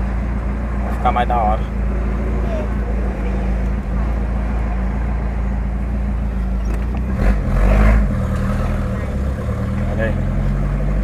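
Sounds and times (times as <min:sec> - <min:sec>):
car engine idling: 0:00.0 - 0:11.0
engine revving: 0:00.8 - 0:11.0.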